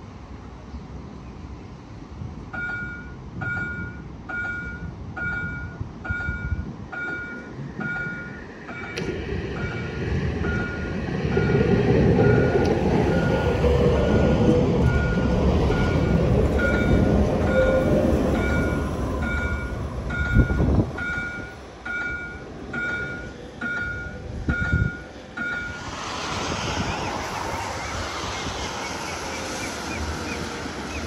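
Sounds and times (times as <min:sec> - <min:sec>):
tram wheels rumbling: 0:02.0 - 0:31.0.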